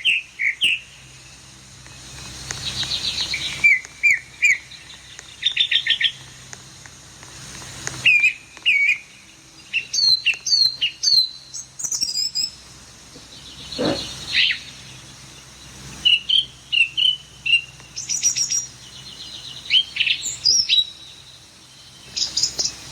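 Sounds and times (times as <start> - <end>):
small bird chirping: 0.0 - 6.3, 8.0 - 22.9.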